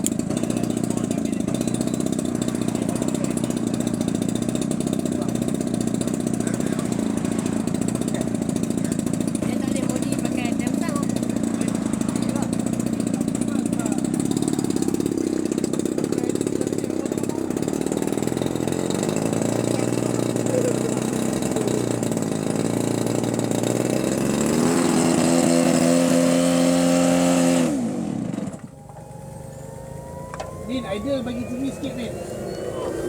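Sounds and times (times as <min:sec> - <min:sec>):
model airplane engine running: 0:00.0 - 0:33.0.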